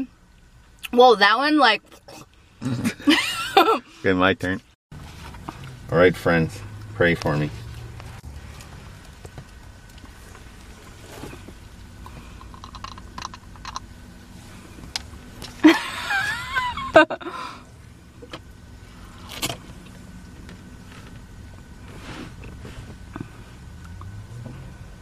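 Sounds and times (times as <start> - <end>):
low rumble inside car: 0.0 - 25.0.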